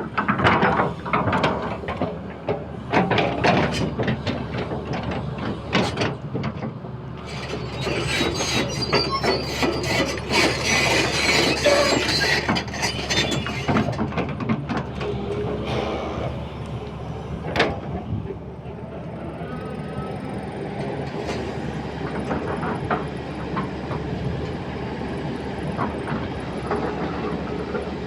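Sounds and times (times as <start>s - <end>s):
excavator engine hum: 0.0s - 28.0s.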